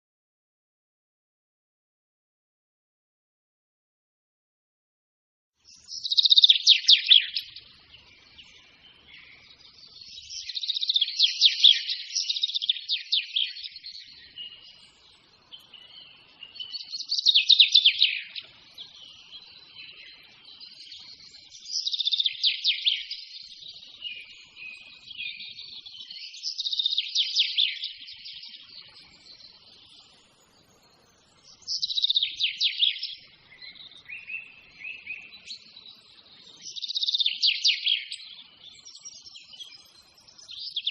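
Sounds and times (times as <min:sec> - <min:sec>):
songbird chirping: 0:05.6 - 0:40.9.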